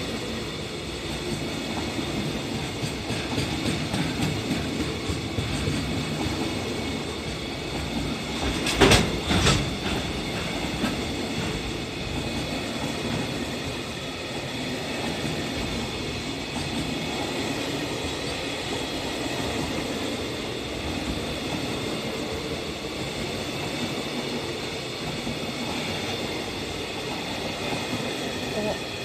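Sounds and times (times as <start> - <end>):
train wheels running on rails: 0.0 - 29.0.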